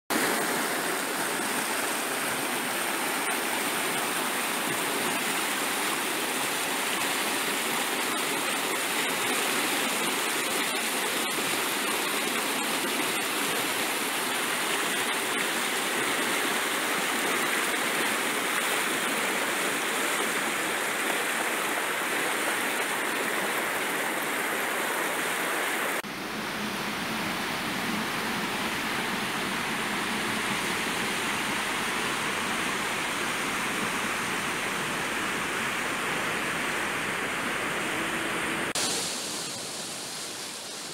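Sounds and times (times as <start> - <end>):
water rushing over rocks: 0.1 - 40.9.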